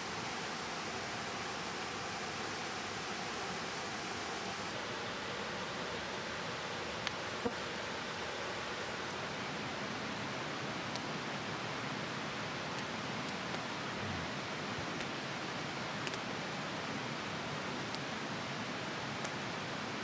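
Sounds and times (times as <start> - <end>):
distant flowing water: 0.0 - 20.0.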